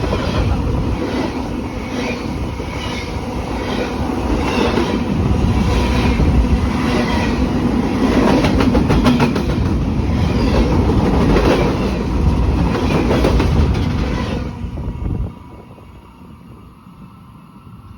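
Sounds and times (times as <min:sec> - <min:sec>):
train rumble: 0:00.0 - 0:17.9.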